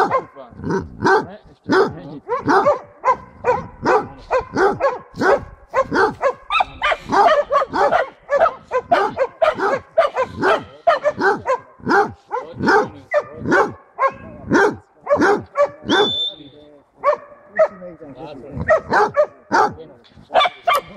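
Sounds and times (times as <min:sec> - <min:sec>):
dog barking: 0:00.0 - 0:16.2, 0:17.0 - 0:17.9, 0:18.6 - 0:20.9.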